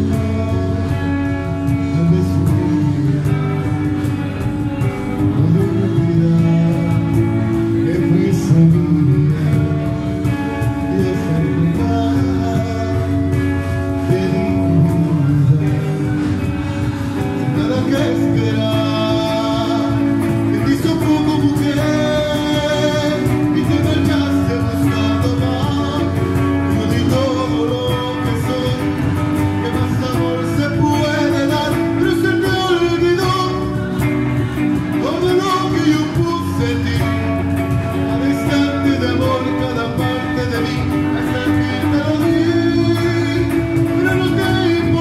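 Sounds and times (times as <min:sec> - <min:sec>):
cajon beat: 0:00.0 - 0:45.0
electric guitar: 0:00.0 - 0:45.0.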